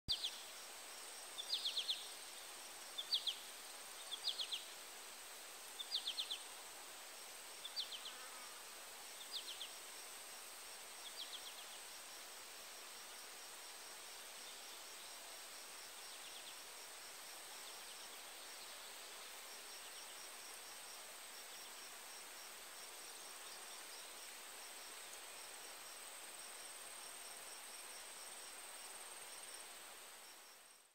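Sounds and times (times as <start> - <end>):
soft background hiss: 0.1 - 30.9
crickets chirping: 0.2 - 30.9.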